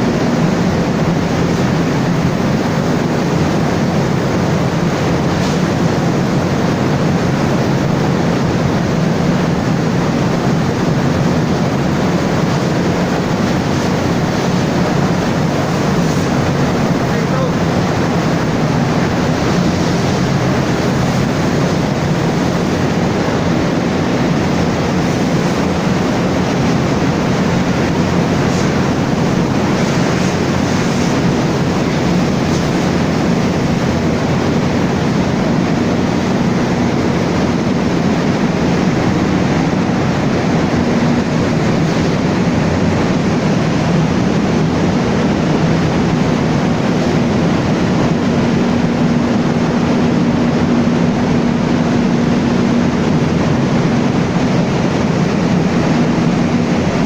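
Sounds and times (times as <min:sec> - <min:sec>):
diesel generator engine drone: 0:00.0 - 0:57.0.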